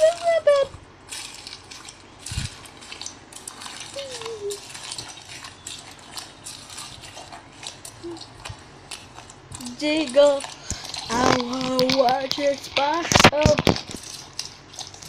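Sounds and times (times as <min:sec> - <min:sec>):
hands squishing slime: 0:00.0 - 0:15.0.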